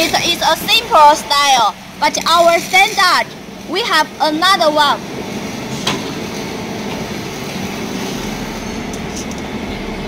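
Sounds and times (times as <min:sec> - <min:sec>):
low hum of machinery: 0:00.0 - 0:10.0.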